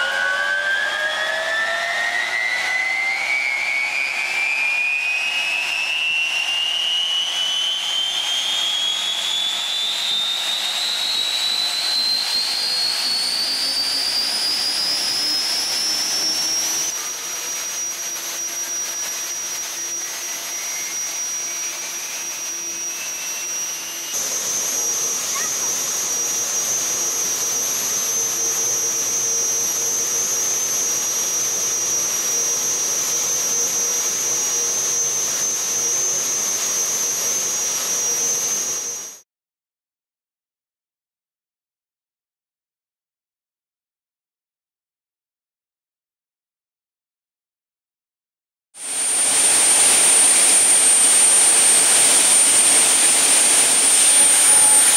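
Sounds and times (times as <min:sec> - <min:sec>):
gas turbine engines whining: 0:00.0 - 0:39.2, 0:48.8 - 0:54.9.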